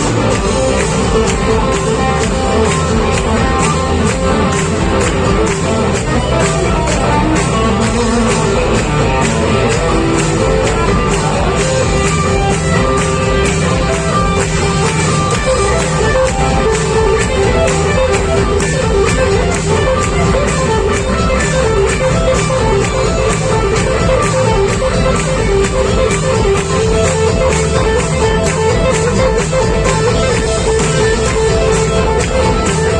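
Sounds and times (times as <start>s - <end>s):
live rock band playing: 0.0s - 32.9s
steady drum beat: 0.0s - 32.9s.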